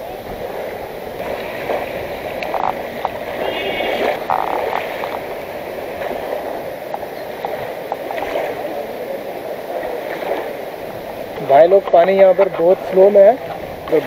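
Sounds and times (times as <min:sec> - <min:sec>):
river rushing and lapping: 0:00.0 - 0:14.0.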